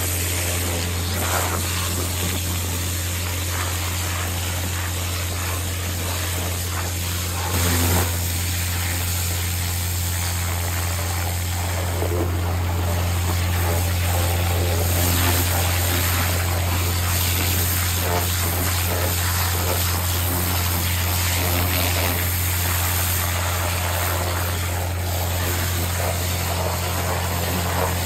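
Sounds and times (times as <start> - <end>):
pressure washer droning: 0.0 - 28.0
water jet splashing into mud: 0.0 - 28.0.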